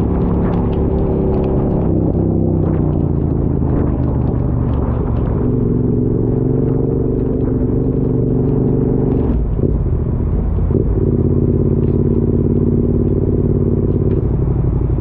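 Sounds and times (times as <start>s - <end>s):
motorcycle engine running: 0.0s - 15.0s
wind and road rumble: 0.0s - 15.0s.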